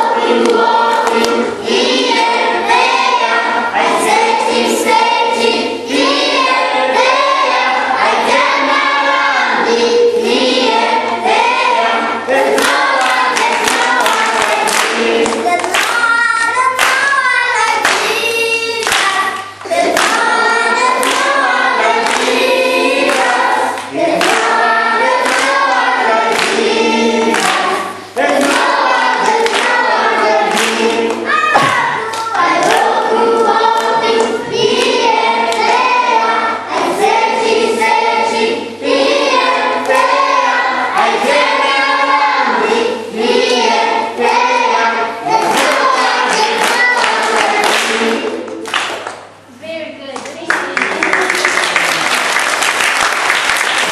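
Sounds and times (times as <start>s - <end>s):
children's choir singing: 0.0s - 49.5s.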